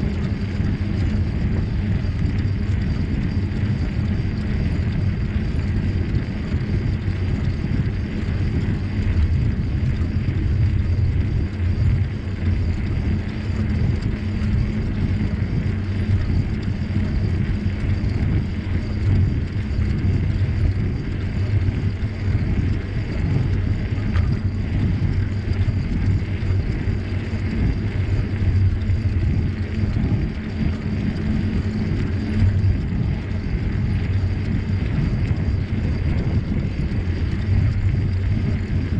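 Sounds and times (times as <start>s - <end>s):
bicycle tyres rolling on trail: 0.0s - 38.9s
wind buffeting microphone: 0.0s - 38.9s.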